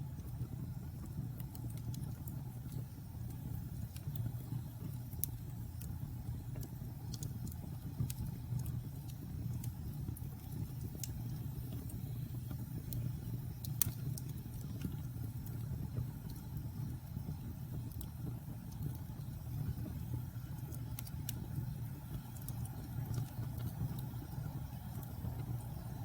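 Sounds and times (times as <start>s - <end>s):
fire rumbling: 0.0s - 26.0s
logs crackling and popping: 0.1s - 26.0s.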